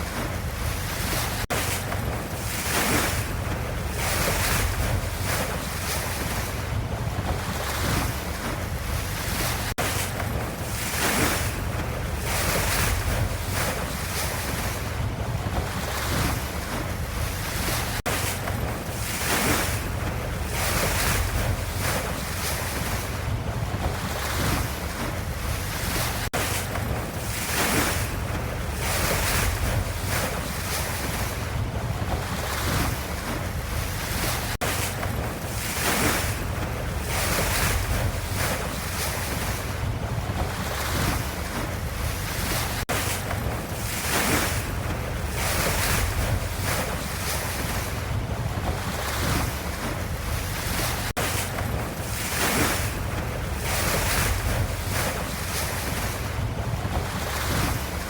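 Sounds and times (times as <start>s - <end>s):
ocean waves washing: 0.0s - 58.0s.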